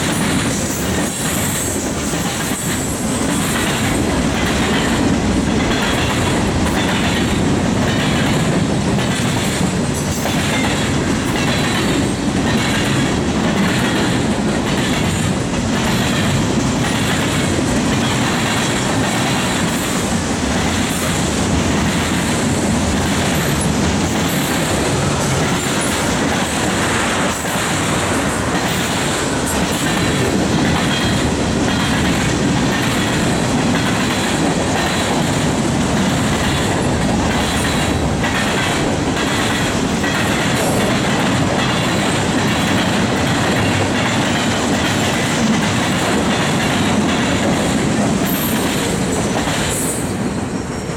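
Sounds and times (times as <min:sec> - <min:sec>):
freight train wheels clicking on rails: 0:00.0 - 0:50.9.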